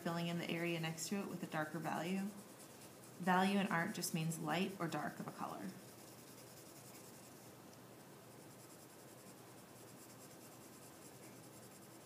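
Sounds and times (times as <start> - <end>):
pencil scratching on paper: 0.2 - 7.5, 8.3 - 12.0.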